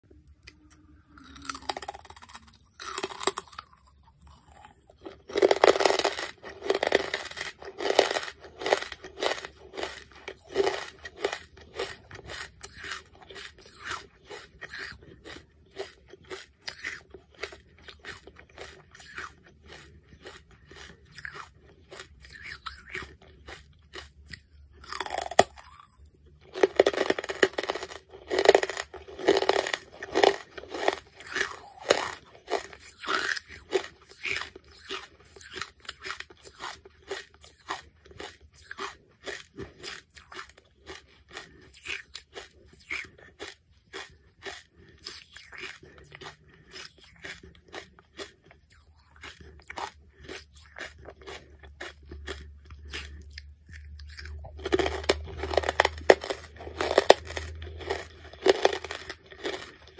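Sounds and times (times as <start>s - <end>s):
person chewing hard charcoal: 0.1s - 59.9s.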